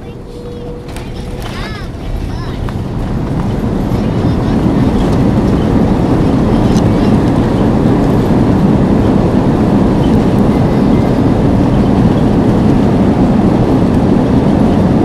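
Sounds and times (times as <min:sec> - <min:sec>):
airliner cabin rumble on landing: 0:00.0 - 0:15.0.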